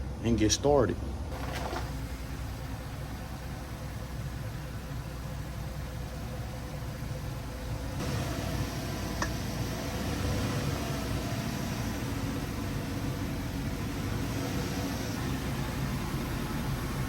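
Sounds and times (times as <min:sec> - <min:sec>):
truck engine low rumble: 0:00.0 - 0:17.0.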